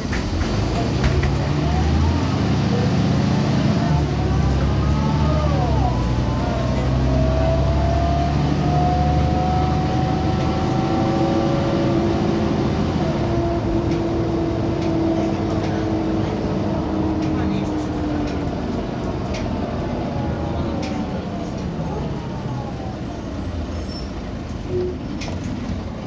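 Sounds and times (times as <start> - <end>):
bus diesel engine drone and whine: 0.0 - 26.0.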